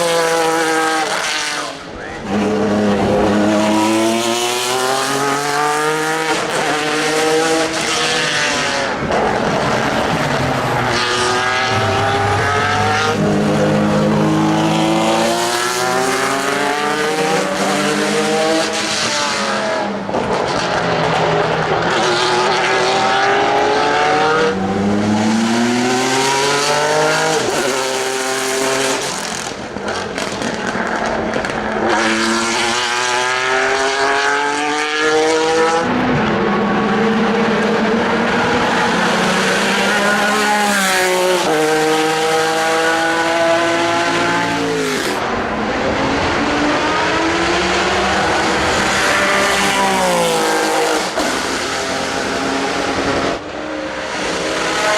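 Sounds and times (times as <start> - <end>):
race car engine revving: 0.0 - 54.9.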